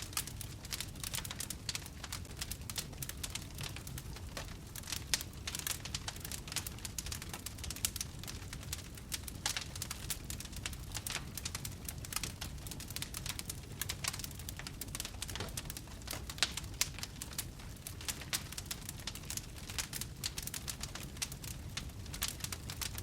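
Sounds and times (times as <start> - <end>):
fire crackling and popping: 0.0 - 23.0
low rumble of burning: 0.0 - 23.0.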